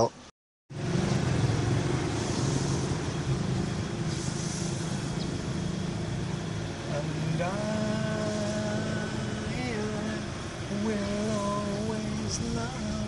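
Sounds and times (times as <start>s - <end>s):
traffic noise: 0.0s - 13.0s
vehicle engines humming: 0.0s - 13.0s.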